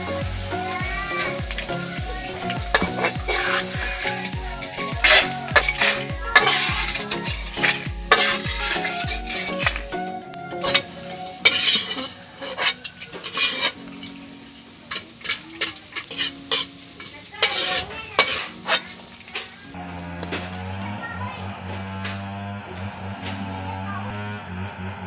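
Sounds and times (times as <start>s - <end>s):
metal ladle scraping and clinking: 0.0s - 20.9s
rice sizzling in hot oil: 0.0s - 21.4s, 22.6s - 23.8s
guitar music: 0.0s - 24.6s.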